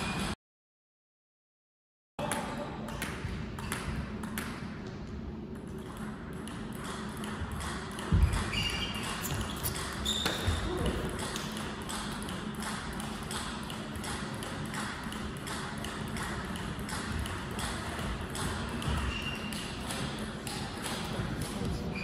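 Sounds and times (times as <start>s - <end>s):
sports hall hum: 0.0s - 0.4s, 2.2s - 22.0s.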